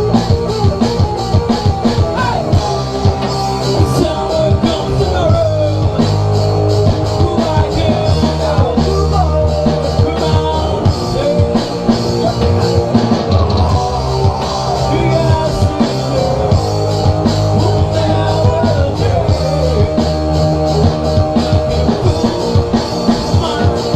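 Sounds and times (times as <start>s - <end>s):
rock band playing live: 0.0s - 23.9s.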